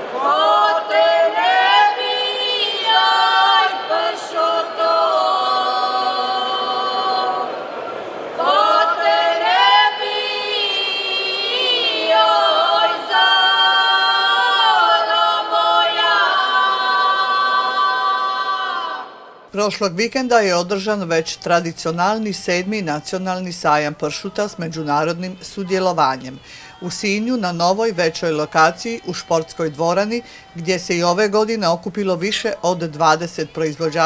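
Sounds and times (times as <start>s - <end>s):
women singing a cappella: 0.0s - 7.7s, 8.4s - 19.4s, 20.8s - 34.0s.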